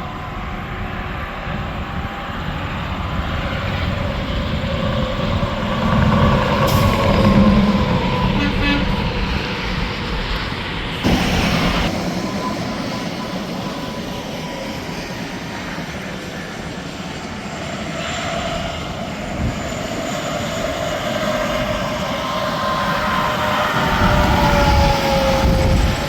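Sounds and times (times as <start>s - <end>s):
highway traffic rushing: 0.0s - 26.0s
passing vehicle whine: 0.0s - 26.0s.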